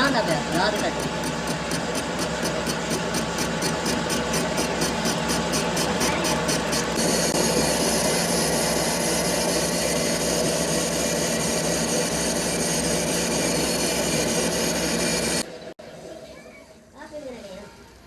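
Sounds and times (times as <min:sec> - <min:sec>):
high grinding hiss: 0:00.0 - 0:15.4
metalworking machinery hum: 0:00.0 - 0:15.7.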